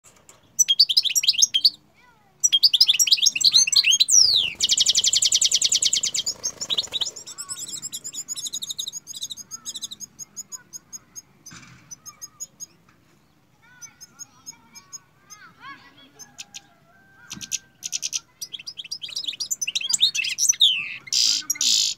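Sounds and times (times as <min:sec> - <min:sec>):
finch singing: 0:00.2 - 0:21.9.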